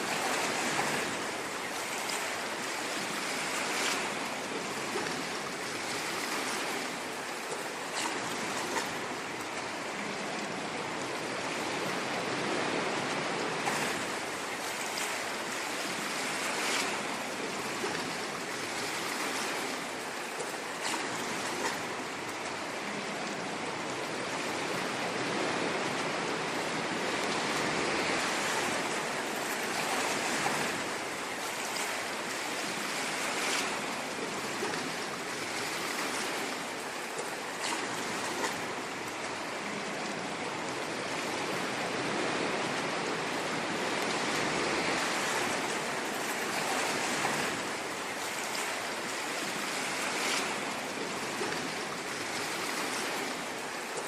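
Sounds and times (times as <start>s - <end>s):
ocean waves washing on shore: 0.0s - 54.0s.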